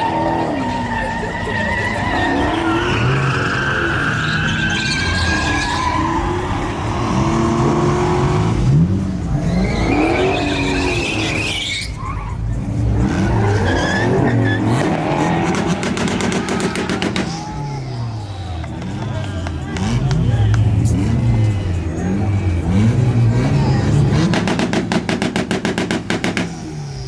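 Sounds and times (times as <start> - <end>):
tires squealing on pavement: 0.0 - 27.0
truck engine revving: 0.0 - 27.0.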